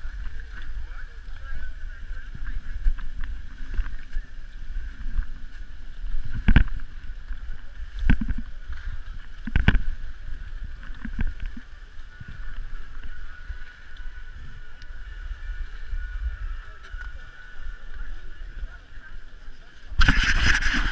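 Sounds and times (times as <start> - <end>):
skis scraping over snow: 0.0 - 20.9
wind rumble on microphone: 0.0 - 20.9.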